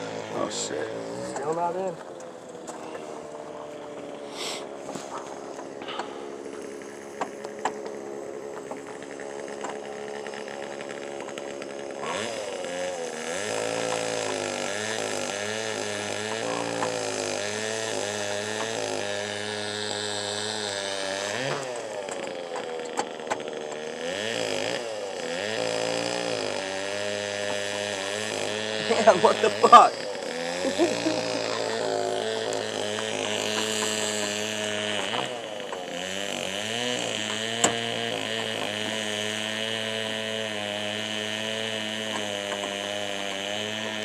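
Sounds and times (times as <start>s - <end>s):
engine revving up and down: 0.0s - 7.8s, 8.8s - 44.0s.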